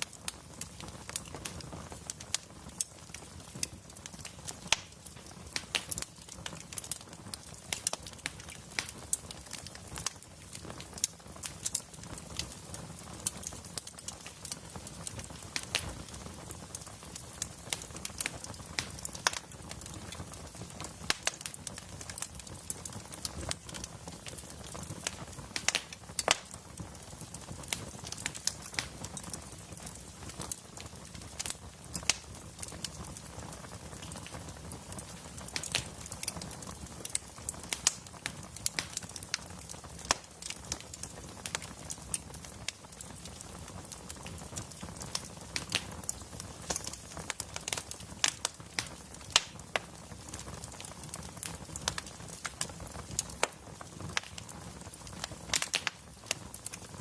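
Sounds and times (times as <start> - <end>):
low hiss of burning logs: 0.0 - 57.0
wood fire crackling: 0.0 - 57.0.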